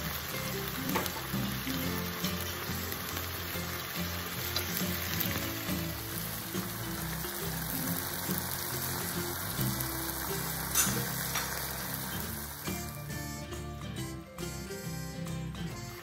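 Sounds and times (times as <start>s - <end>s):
background music: 0.0s - 16.0s
tofu sizzling in a pan: 0.0s - 16.0s.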